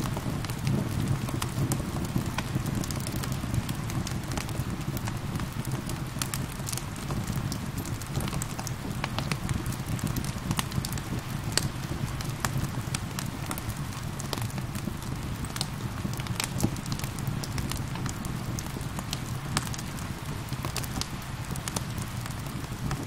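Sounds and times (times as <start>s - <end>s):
gentle rain falling: 0.0s - 23.0s
wood fire crackling: 0.0s - 23.0s.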